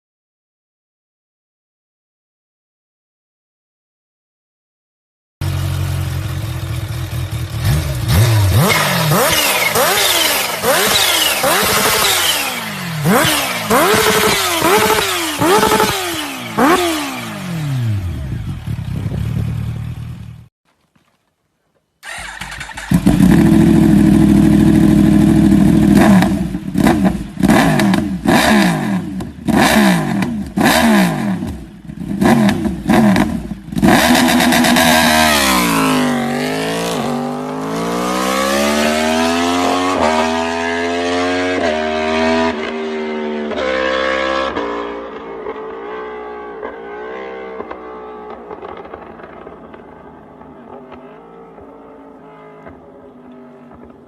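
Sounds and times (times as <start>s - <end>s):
motorcycle accelerating away: 5.4s - 20.5s, 22.0s - 54.0s
motorcycle engine revving: 5.4s - 20.5s, 22.0s - 54.0s.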